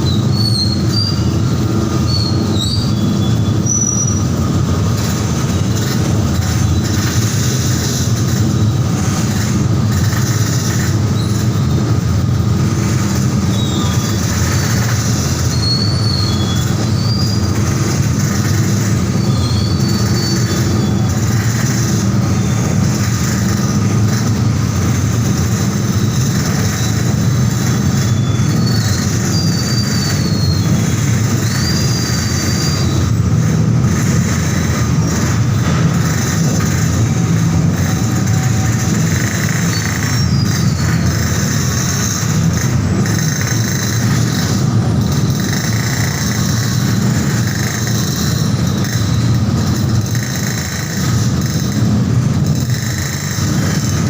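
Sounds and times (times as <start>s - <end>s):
ferry engine rumble: 0.0s - 54.0s
high squeals: 0.0s - 54.0s.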